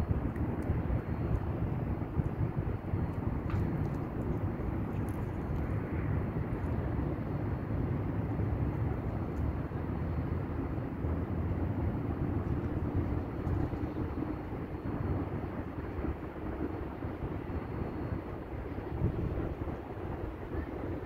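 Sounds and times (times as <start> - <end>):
distant city traffic rumble: 0.0 - 21.0.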